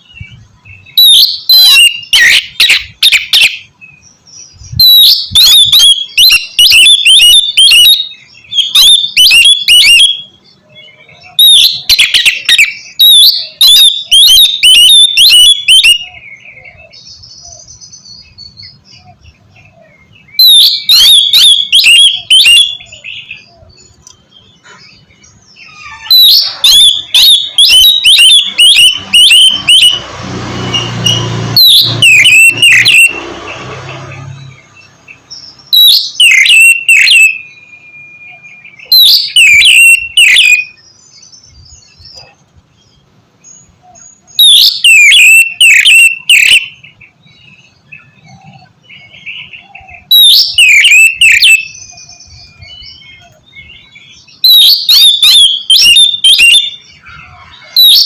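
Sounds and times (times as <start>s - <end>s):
bird singing sharp repeated notes: 0.0s - 58.0s.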